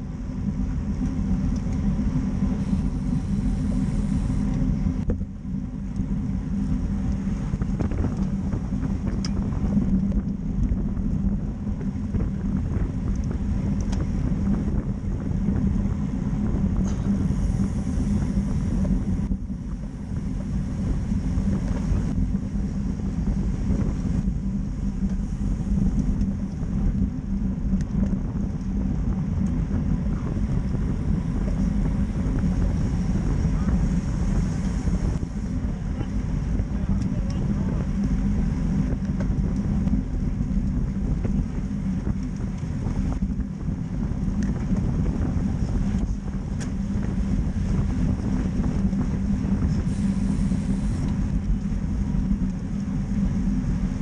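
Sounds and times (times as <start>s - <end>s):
bicycle tyre and road noise: 0.0s - 54.0s
wind buffeting microphone: 0.0s - 54.0s.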